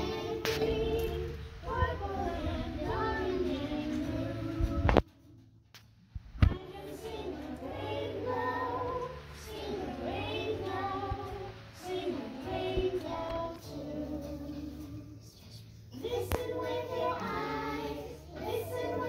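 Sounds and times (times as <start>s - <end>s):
children singing: 0.0s - 5.0s, 6.6s - 19.0s.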